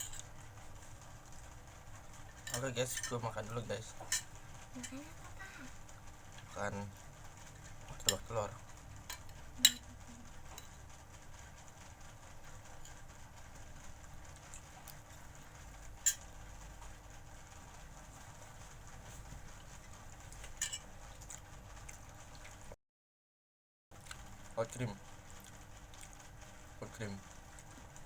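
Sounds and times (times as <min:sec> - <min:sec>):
faint eating sounds: 0:00.0 - 0:22.8, 0:24.0 - 0:28.0.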